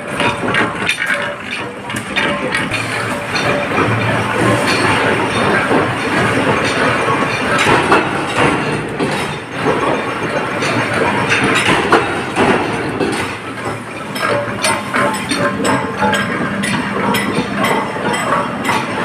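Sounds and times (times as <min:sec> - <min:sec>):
sheet cutting machine clattering: 0:00.0 - 0:19.0.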